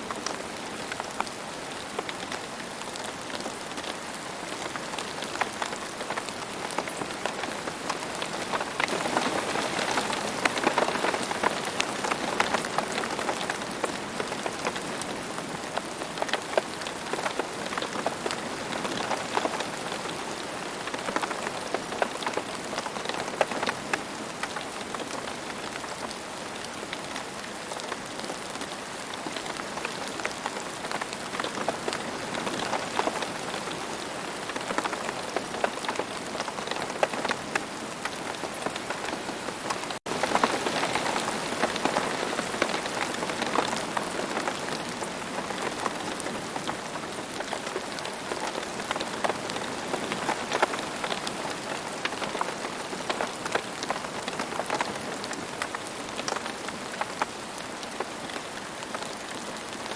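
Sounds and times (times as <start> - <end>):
rain falling on ground: 0.0 - 59.9.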